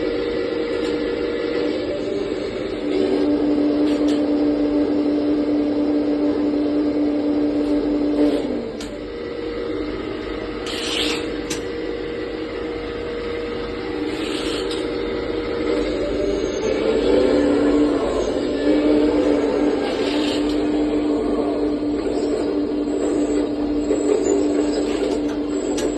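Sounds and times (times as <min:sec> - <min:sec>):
model excavator motor whine: 0:00.0 - 0:25.9.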